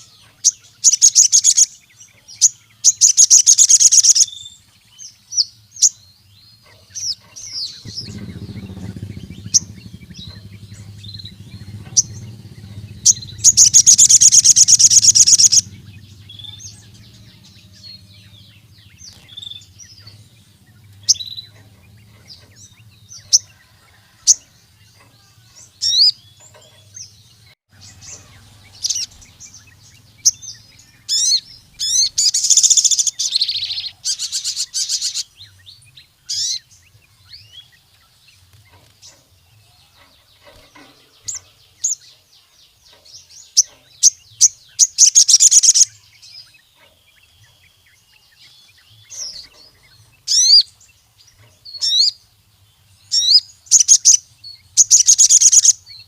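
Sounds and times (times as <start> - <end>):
bird fast trills: 0.0 - 4.6, 6.6 - 37.8, 43.5 - 56.0
bird chirps: 0.0 - 56.0.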